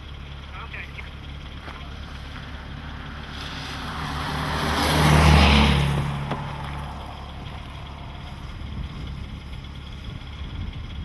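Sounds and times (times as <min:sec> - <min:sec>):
road vehicle passing by: 0:01.0 - 0:11.0.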